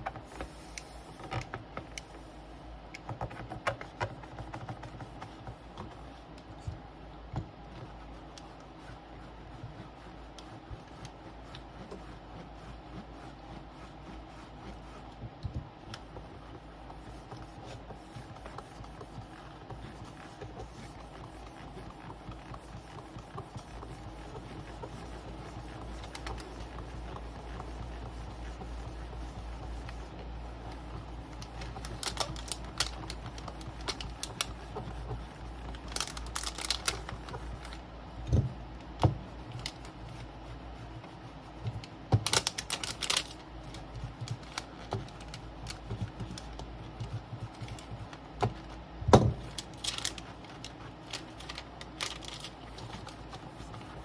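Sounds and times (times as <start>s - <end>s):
clicks taps and scratchy rubs: 0.0s - 54.0s
steady low hum: 0.0s - 54.0s.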